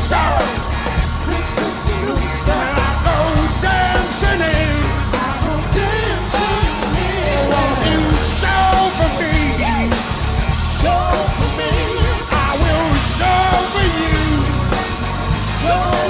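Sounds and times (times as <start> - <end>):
bass guitar: 0.0 - 16.0
steady drum beat: 0.0 - 16.0.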